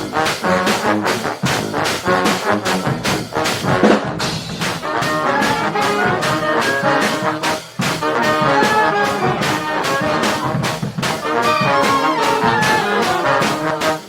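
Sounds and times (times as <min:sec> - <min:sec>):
brass band playing: 0:00.0 - 0:14.0
drums keeping a beat: 0:00.0 - 0:14.0.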